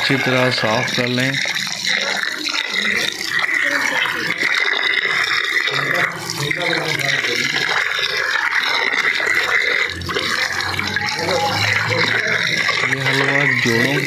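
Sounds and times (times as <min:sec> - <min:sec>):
tap water pouring into steel basin: 0:00.0 - 0:14.0.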